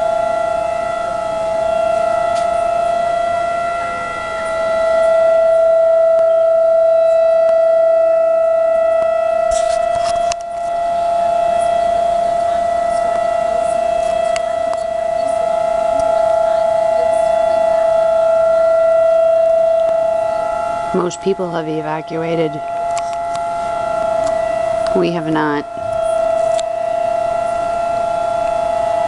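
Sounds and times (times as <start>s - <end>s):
steady siren tone: 0.0s - 29.0s.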